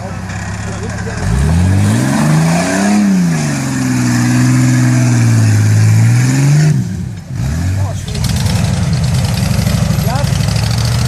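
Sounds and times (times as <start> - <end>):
engine revving: 0.0 - 11.0.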